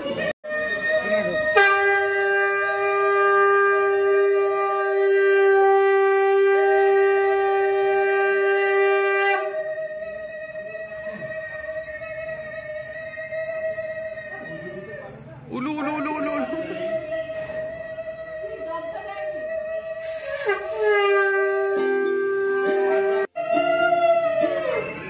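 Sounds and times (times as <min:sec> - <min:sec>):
conch shells blown in long notes: 0:00.5 - 0:14.9, 0:16.4 - 0:25.0.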